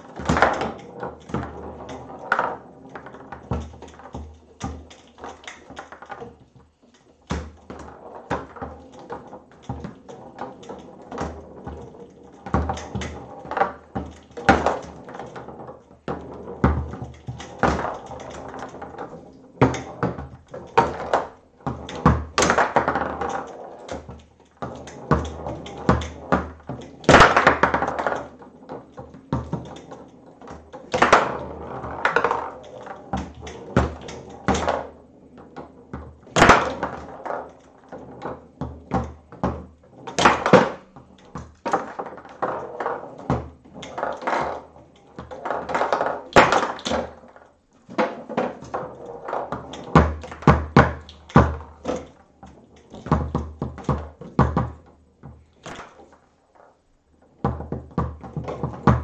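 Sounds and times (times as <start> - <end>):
foosball ball clicks and knocks: 0.0 - 59.0.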